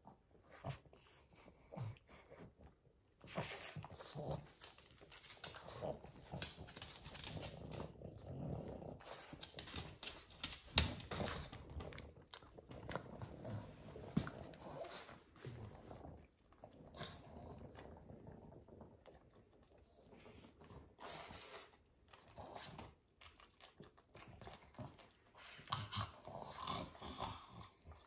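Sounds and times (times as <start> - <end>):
dogs breathing noisily: 0.0 - 23.1, 24.0 - 28.0
dogs sniffing and licking: 0.0 - 28.0.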